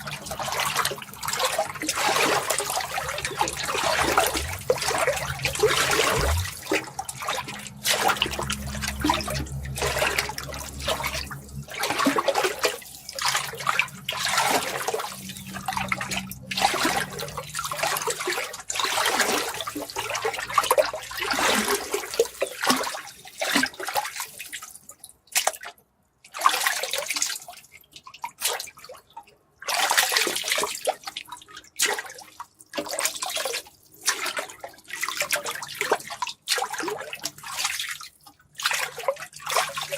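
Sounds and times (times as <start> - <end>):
water splashing and gushing: 0.0 - 24.8, 29.7 - 39.9.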